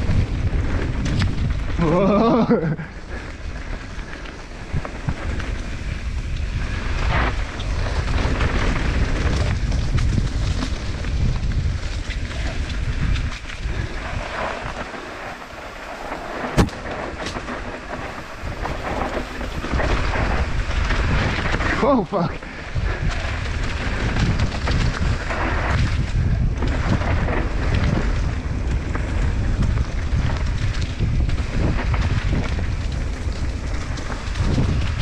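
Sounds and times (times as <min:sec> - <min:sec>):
bike rattles and clicks: 0:00.0 - 0:35.0
wind rumble on microphone: 0:00.0 - 0:35.0.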